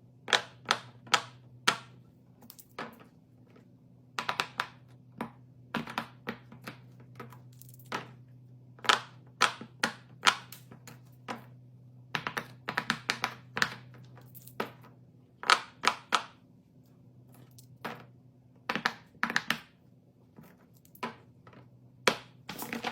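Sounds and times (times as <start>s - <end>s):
faint low hum: 0.0s - 22.9s
small objects tapping and clicking: 0.3s - 3.6s, 4.2s - 8.2s, 8.8s - 11.5s, 12.1s - 16.4s, 17.4s - 19.8s, 20.4s - 22.9s.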